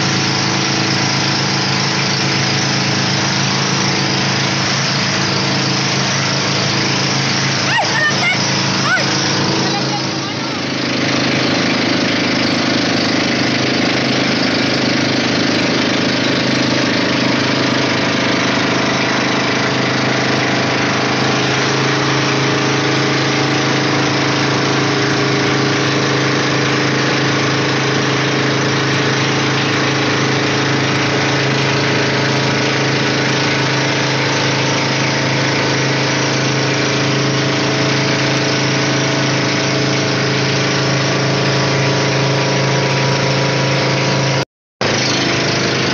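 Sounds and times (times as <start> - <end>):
boat engine droning: 0.0 - 45.9
wind and water rushing: 0.0 - 45.9.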